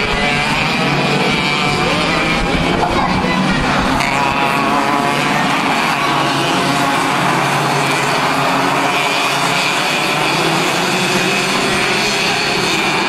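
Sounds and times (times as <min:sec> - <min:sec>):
racing kart engines droning: 0:00.0 - 0:13.0.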